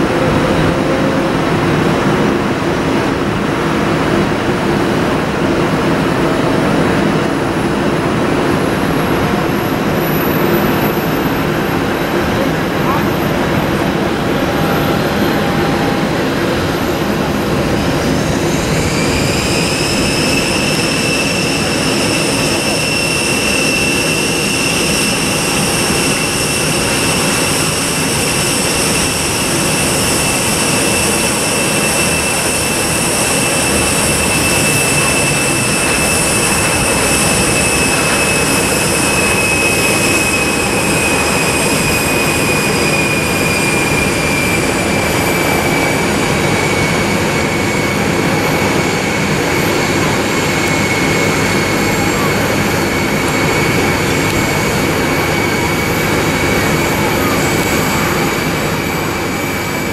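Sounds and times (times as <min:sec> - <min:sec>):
jet engine rumble: 0:00.0 - 0:59.9
jet engine whine spooling up: 0:00.0 - 0:59.9.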